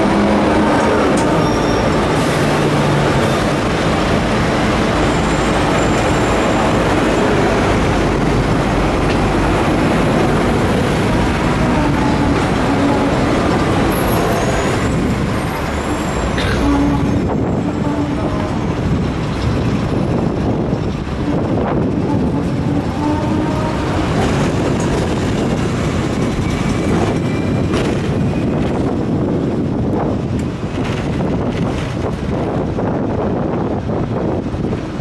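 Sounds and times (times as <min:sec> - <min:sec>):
city traffic: 0:00.0 - 0:35.0
tram wheels and motor rumbling: 0:00.0 - 0:35.0.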